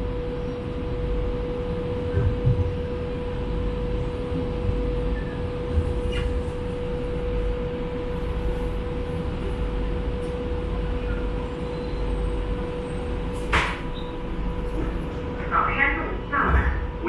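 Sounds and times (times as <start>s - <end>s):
constant hum: 0.0s - 17.0s
train low rumble: 0.0s - 17.0s.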